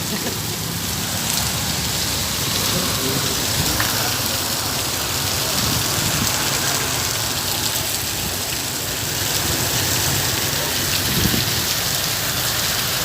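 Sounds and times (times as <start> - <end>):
heavy rain hissing: 0.0 - 13.0
raindrops ticking: 0.0 - 13.0.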